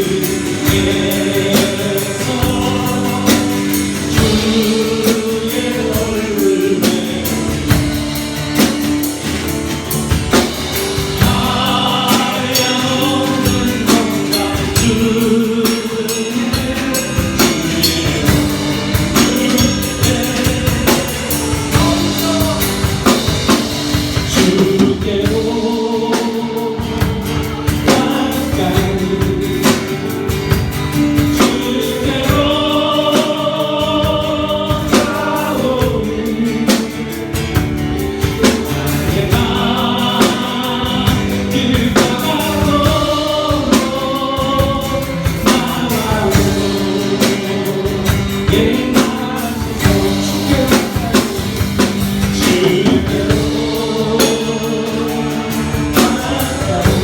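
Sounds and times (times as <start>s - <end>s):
congregation singing: 0.0s - 57.0s
drums keeping steady beat: 0.0s - 57.0s
live band chords: 0.0s - 57.0s.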